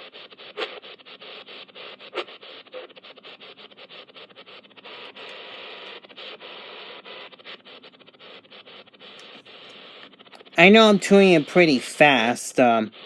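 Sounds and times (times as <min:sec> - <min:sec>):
radio static hiss: 0:00.0 - 0:13.0
sharp radio crackle: 0:00.0 - 0:13.0.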